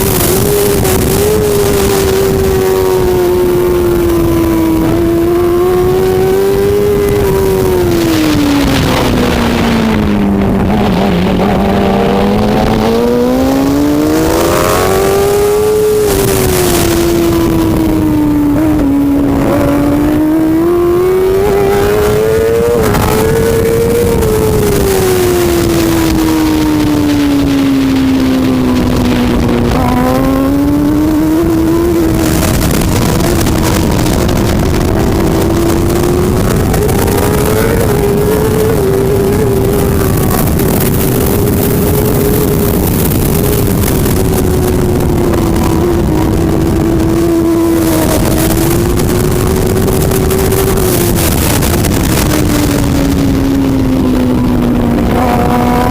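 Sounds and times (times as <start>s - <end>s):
racing motorcycle engine revving: 0.0s - 55.9s
steady rushing noise: 0.0s - 55.9s.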